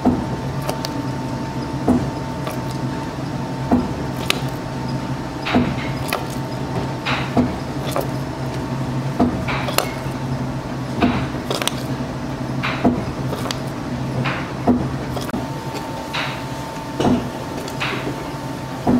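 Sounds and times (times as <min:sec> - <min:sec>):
machinery humming: 0:00.0 - 0:18.9.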